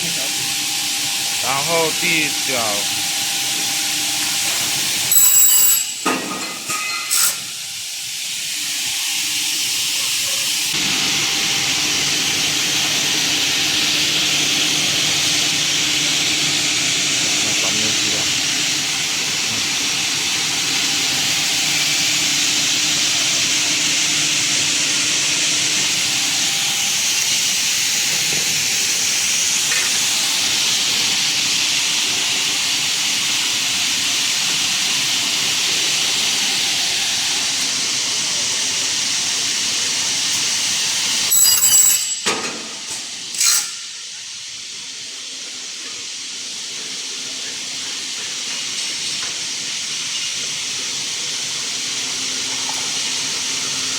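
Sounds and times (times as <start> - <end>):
circular saw machine whirring: 0.0 - 53.9.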